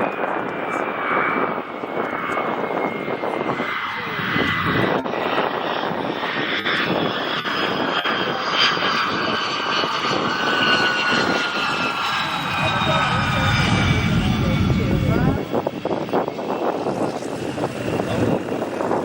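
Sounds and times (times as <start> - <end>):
jet engines whining: 0.1 - 19.0.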